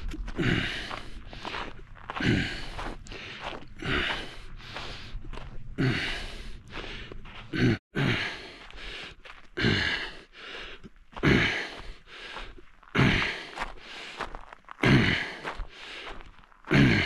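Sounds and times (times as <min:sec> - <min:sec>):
footsteps on gravel: 0:00.0 - 0:17.0
man breathing hard: 0:00.0 - 0:17.0.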